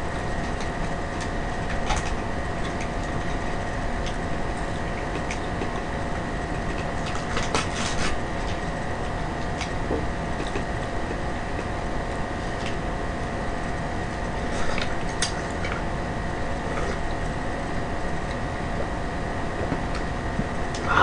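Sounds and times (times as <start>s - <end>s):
room hum and hiss: 0.0s - 21.0s.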